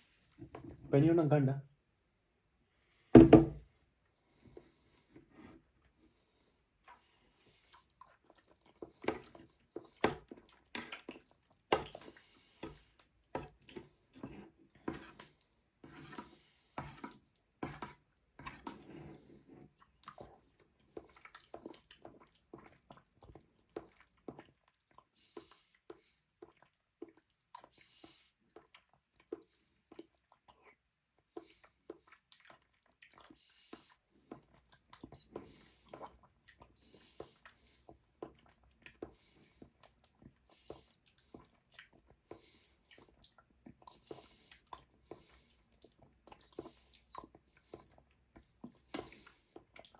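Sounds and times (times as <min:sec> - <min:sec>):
squishy chewing: 0:06.8 - 0:15.6, 0:16.2 - 0:49.9.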